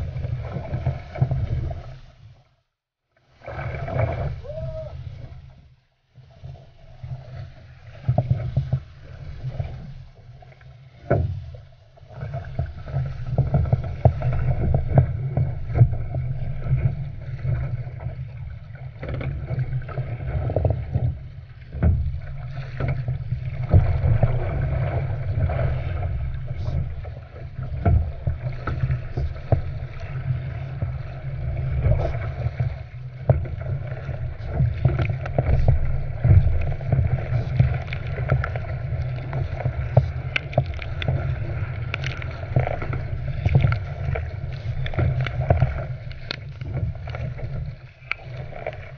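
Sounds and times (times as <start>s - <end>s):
paddle blades slapping water: 0.0s - 2.6s, 3.2s - 48.9s
water rushing along hull: 0.0s - 48.9s.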